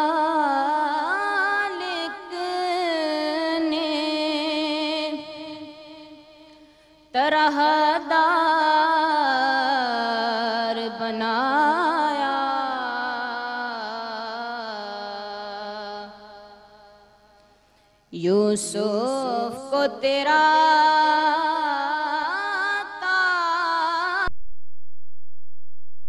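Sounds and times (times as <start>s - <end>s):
woman singing devotional song: 0.0s - 24.3s.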